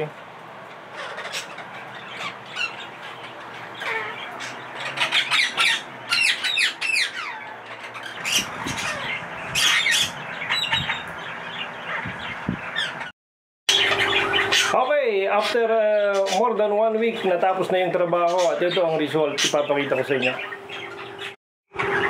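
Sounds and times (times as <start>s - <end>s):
parrots squawking: 0.0s - 13.1s, 13.7s - 16.6s, 18.0s - 22.0s.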